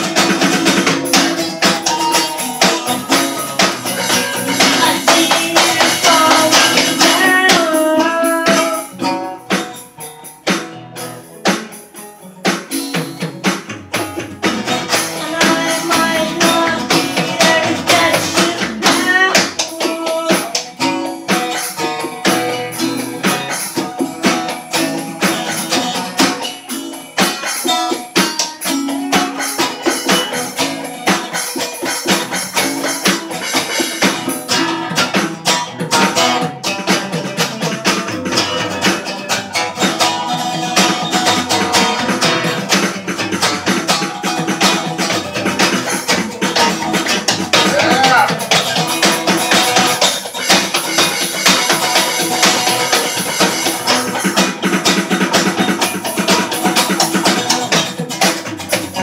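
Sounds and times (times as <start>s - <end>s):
acoustic guitars strummed: 0.0s - 59.0s
electronic drum pads: 0.0s - 59.0s.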